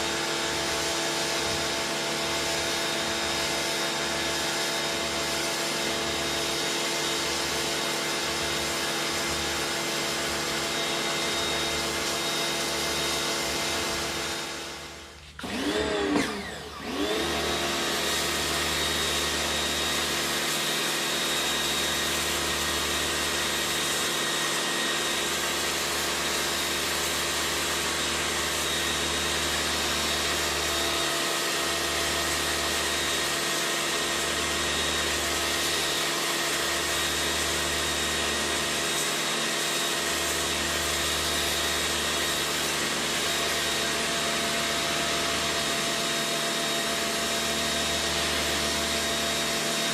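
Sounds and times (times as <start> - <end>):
pressure washer whine: 0.0 - 49.9.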